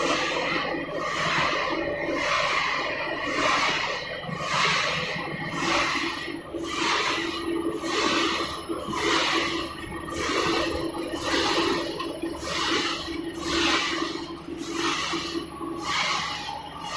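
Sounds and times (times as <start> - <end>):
machinery hum: 0.0 - 16.9
rhythmic swishing noise: 0.0 - 16.9.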